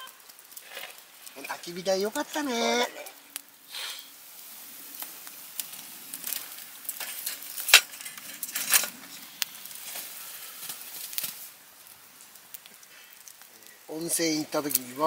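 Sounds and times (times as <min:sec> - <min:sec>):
fire popping: 0:00.0 - 0:15.0
wood fire crackling and hissing: 0:00.0 - 0:15.0.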